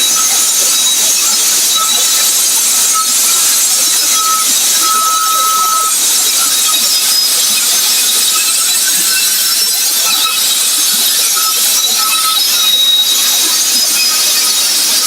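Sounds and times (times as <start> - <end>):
concrete saw grinding: 0.0 - 15.0.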